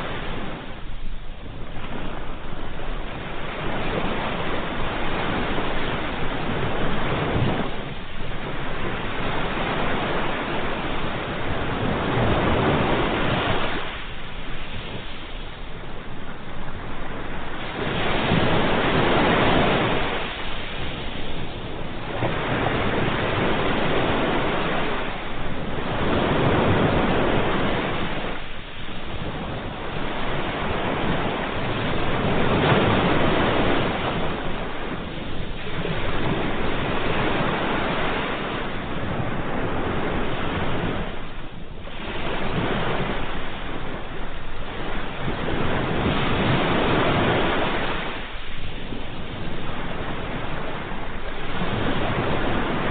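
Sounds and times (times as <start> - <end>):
sea waves washing in: 0.0 - 52.9.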